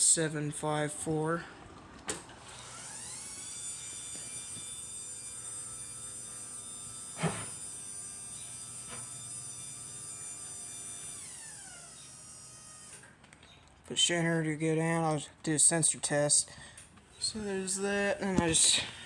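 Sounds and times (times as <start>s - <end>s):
garage door opener motor whine: 0.0s - 13.7s, 16.7s - 19.0s.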